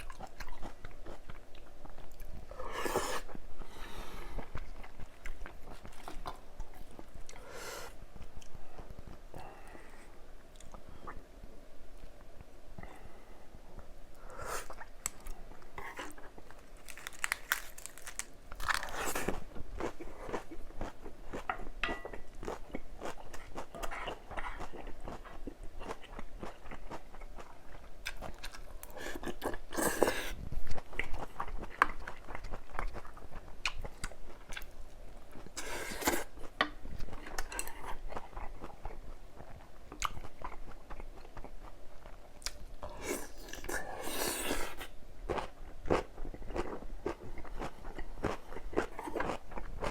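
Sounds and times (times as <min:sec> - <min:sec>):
person chewing crunchy food: 0:00.0 - 0:07.5, 0:14.6 - 0:49.9.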